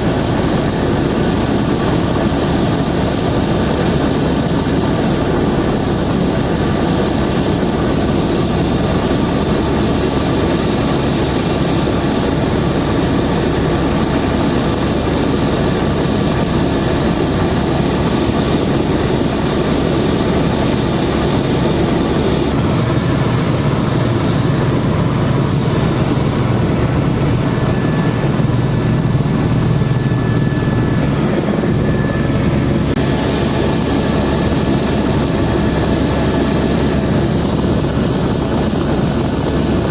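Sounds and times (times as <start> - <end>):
faint steady whine: 0.0 - 39.9
helicopter rotor and turbine noise: 0.0 - 39.9.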